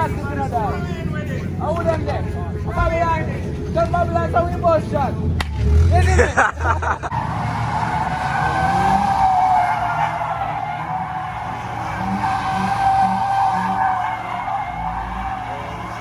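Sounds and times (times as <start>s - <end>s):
car engine running: 0.0s - 16.0s
car tyres squealing: 0.0s - 16.0s.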